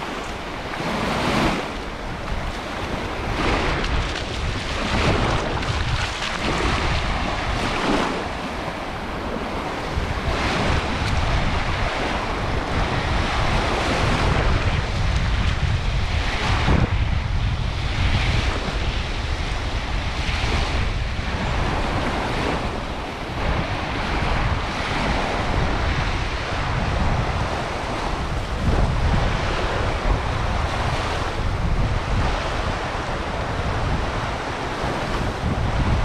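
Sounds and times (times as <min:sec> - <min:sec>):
surf washing onto beach: 0:00.0 - 0:36.0
wind buffeting microphone: 0:00.0 - 0:36.0.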